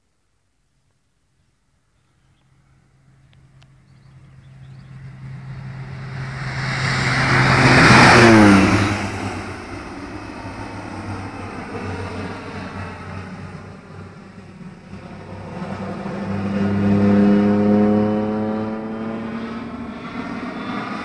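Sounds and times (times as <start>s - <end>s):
propeller plane passing low: 2.1s - 21.0s.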